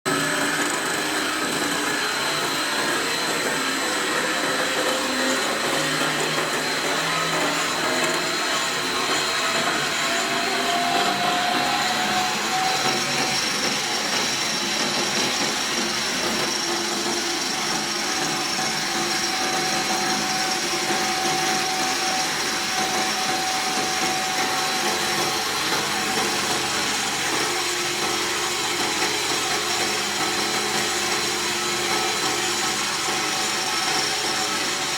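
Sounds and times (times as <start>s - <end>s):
high mechanical whine: 0.1s - 34.9s
wire drawing machine whirring: 0.1s - 34.9s.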